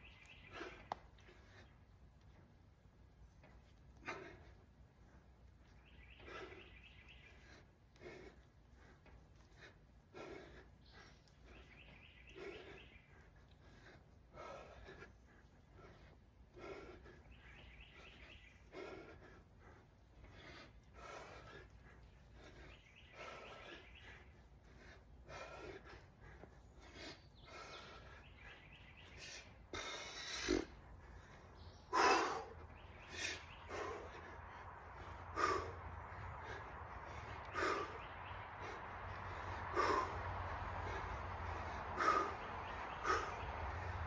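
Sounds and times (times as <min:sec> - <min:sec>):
person breathing hard: 0:00.0 - 0:44.0.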